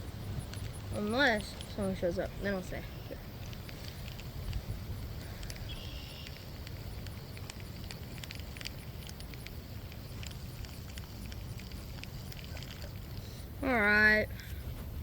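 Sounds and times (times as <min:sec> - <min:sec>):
wind rumbling on microphone: 0:00.0 - 0:15.0
light clicks and rustles: 0:00.4 - 0:13.5.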